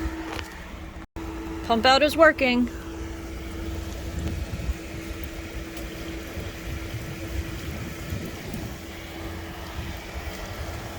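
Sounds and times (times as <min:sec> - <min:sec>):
pump humming: 0:00.0 - 0:10.9.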